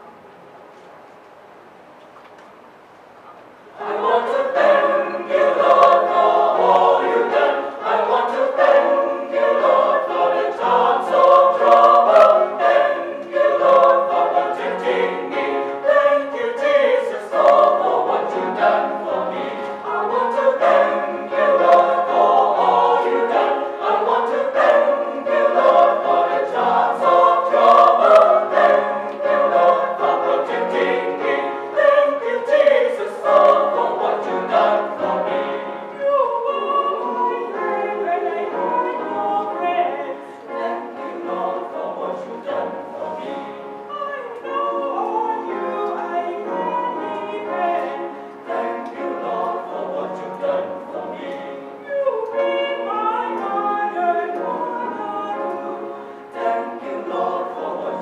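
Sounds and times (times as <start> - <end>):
mixed choir singing: 3.7 - 58.0.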